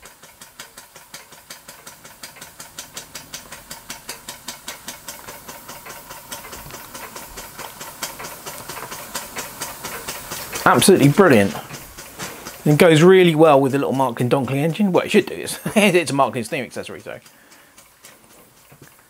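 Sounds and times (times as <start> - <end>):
steam hissing: 0.0 - 19.0
toy steam engine beat: 0.0 - 19.0.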